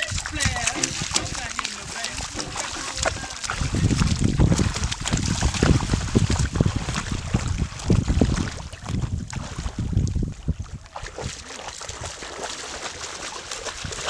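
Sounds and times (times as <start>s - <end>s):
wind buffeting microphone: 0.0s - 12.8s, 13.4s - 14.0s
shallow water splashing: 0.0s - 14.0s.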